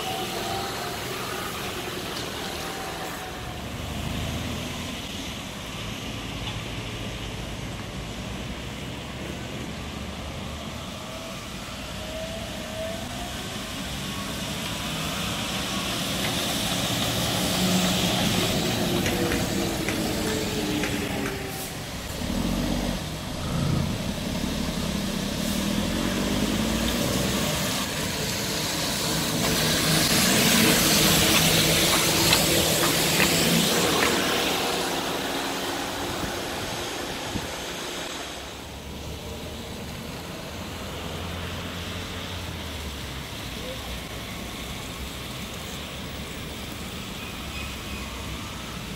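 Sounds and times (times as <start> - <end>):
cars passing on wet road: 0.0 - 48.9
tyres hissing on wet road: 0.0 - 48.9.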